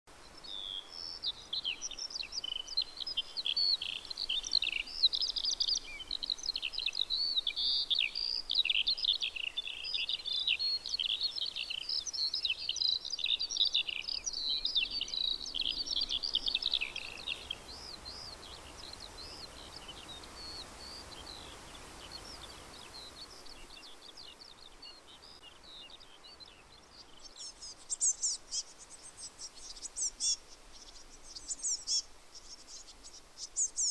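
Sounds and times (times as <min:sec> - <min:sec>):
songbirds chirping and trilling: 0:00.1 - 0:33.9.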